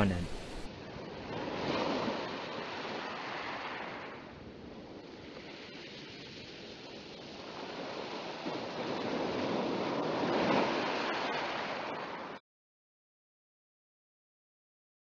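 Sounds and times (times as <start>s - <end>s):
waves rushing: 0.0s - 12.4s.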